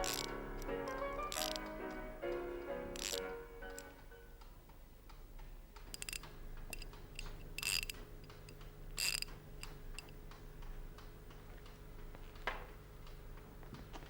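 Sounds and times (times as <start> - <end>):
mechanical clock ticking: 0.0 - 13.6.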